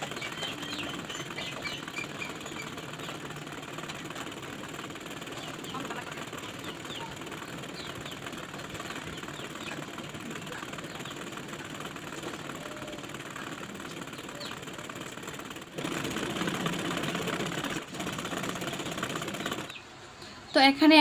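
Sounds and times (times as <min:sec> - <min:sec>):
sewing machine stitching: 0:00.0 - 0:19.8.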